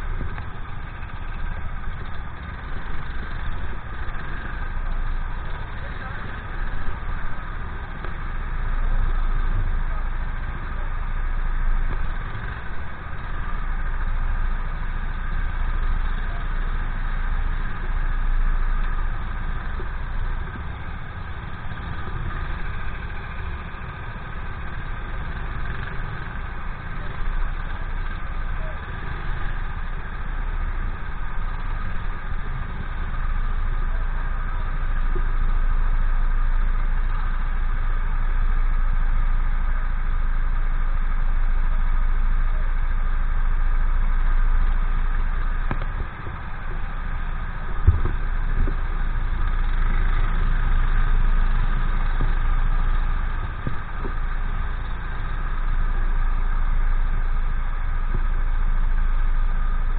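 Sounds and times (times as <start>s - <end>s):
kart engines idling: 0.0s - 59.9s.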